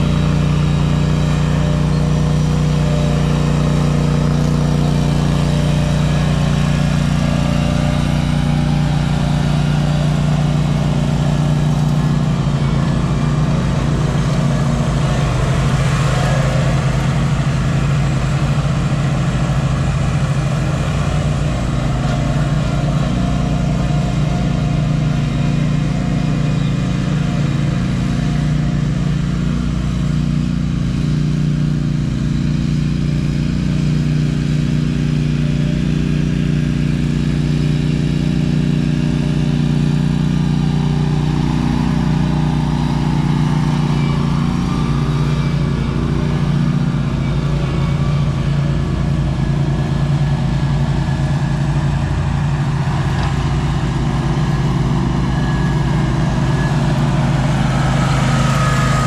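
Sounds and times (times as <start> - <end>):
small engine running steadily: 0.0 - 59.0.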